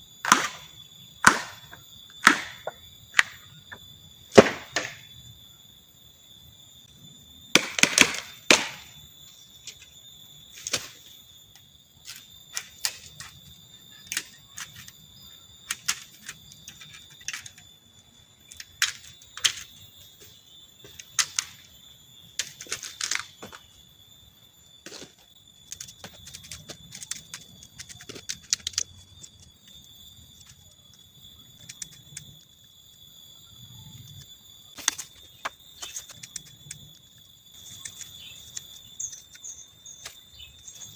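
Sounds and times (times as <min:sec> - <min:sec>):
insects calling: 0:00.0 - 0:40.9.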